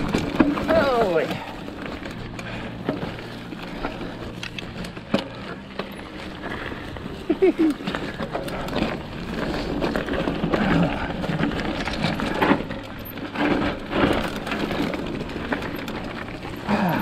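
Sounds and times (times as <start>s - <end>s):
bike knocking and clattering: 0.0s - 17.0s
tyres crunching on loose ground: 0.0s - 17.0s.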